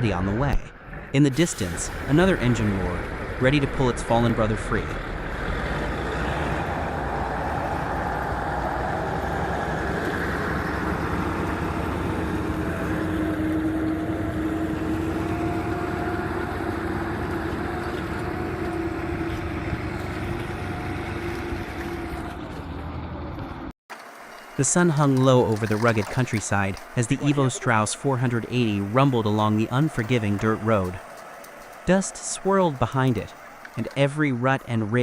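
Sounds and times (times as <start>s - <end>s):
heavy vehicle engine running: 0.1s - 35.0s.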